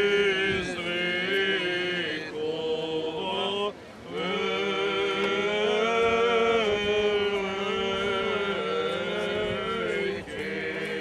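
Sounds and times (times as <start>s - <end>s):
person chanting long held notes: 0.0s - 11.0s.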